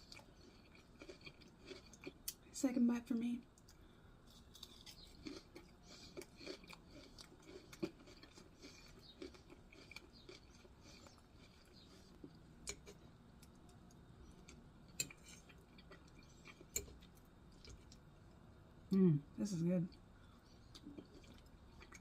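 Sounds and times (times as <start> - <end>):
chewing ribs: 0.0 - 2.4, 3.6 - 18.2, 19.9 - 22.0.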